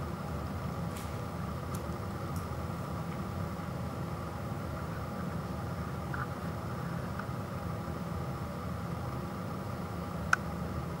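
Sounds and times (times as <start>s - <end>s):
room noise hum and hiss: 0.0s - 11.0s.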